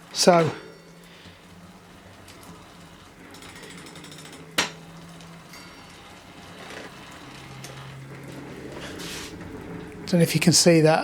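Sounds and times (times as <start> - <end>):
bicycle freewheel ticking: 0.0 - 11.0.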